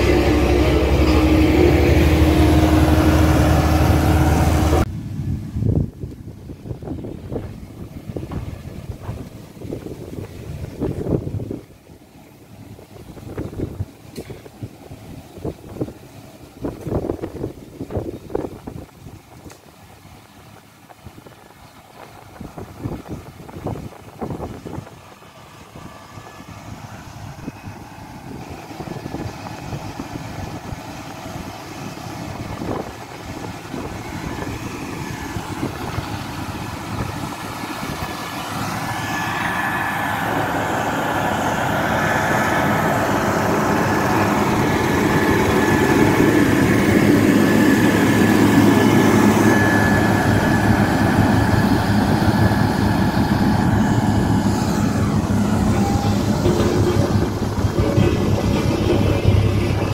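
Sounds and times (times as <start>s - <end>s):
steady high whine: 0.0s - 17.6s, 21.7s - 59.9s
motor grader diesel engine: 0.0s - 59.9s.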